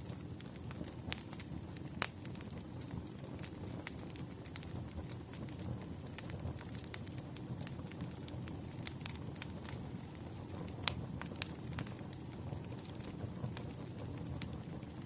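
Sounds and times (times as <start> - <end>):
sharp pops from fire: 0.0 - 15.0
wood fire crackling: 0.0 - 15.0.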